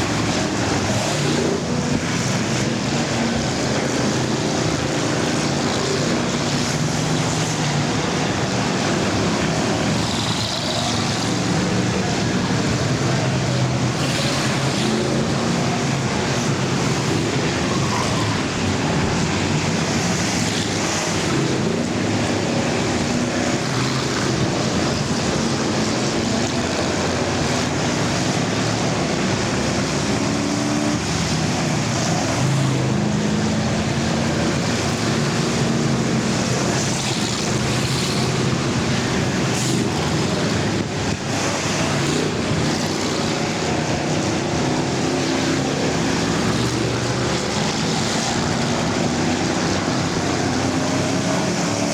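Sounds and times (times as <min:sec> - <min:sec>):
race car engines: 0:00.0 - 0:51.9
road and wind noise: 0:00.0 - 0:51.9.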